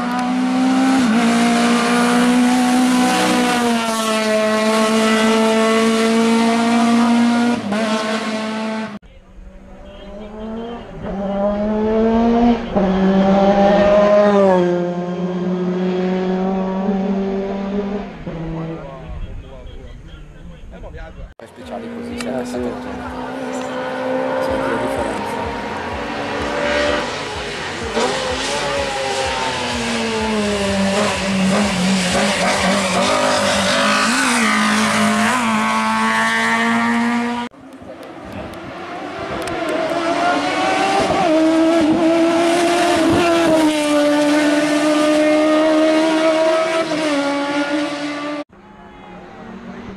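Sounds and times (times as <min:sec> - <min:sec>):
race car engine at high revs: 0:00.0 - 0:09.0, 0:09.7 - 0:19.3, 0:21.5 - 0:48.5.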